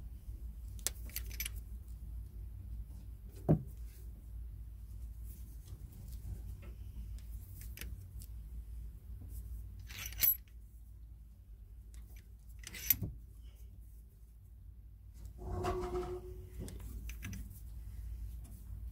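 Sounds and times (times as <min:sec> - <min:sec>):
low steady rumble: 0:00.0 - 0:18.9.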